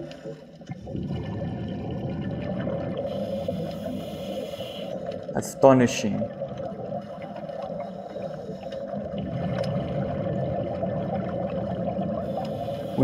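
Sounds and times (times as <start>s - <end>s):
muffled underwater water noise: 0.0s - 13.0s.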